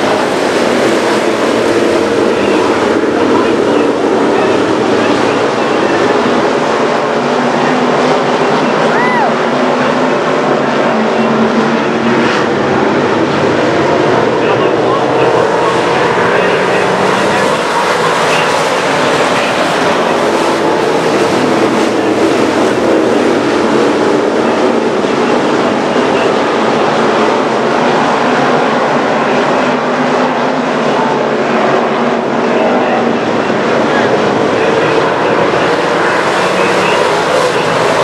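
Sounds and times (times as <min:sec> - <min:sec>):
race car engines roaring: 0:00.0 - 0:38.0.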